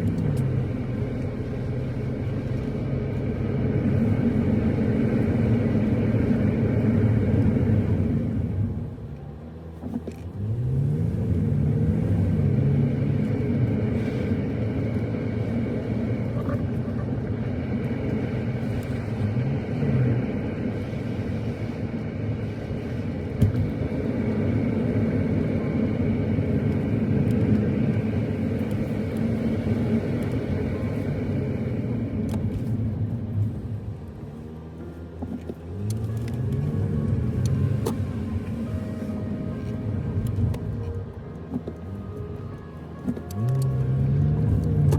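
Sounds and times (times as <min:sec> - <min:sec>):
car engine running: 0:00.0 - 0:44.9
road noise rumble: 0:00.0 - 0:44.9.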